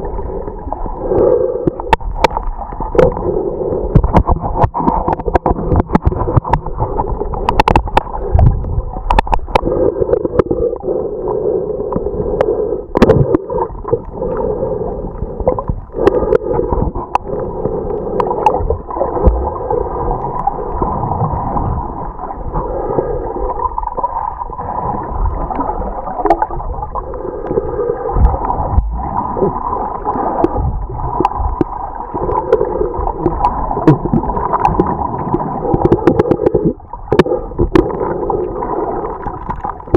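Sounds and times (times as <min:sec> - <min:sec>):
muffled underwater gurgling rush: 0:00.0 - 0:39.9.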